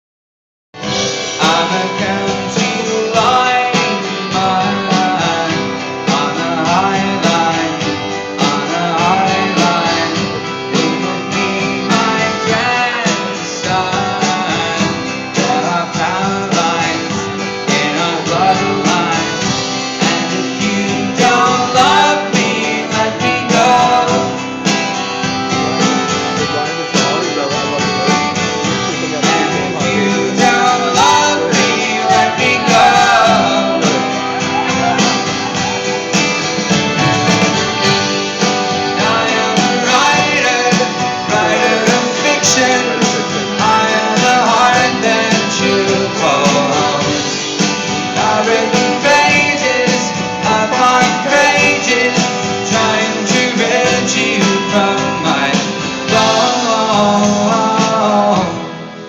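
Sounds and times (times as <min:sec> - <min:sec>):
acoustic guitar: 0:00.8 - 0:59.0
folk-rock band playing live: 0:00.8 - 0:59.0.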